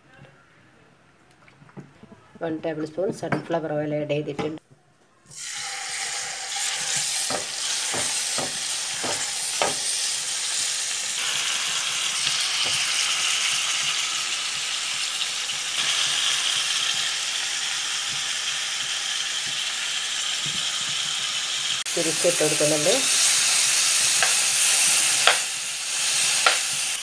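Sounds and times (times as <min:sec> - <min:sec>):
chicken sizzling in oil: 0:05.3 - 0:27.0.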